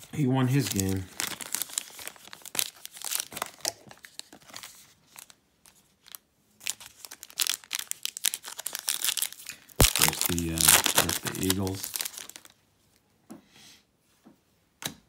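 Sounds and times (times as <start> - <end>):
foil wrapper crinkling and tearing: 0.5 - 12.6.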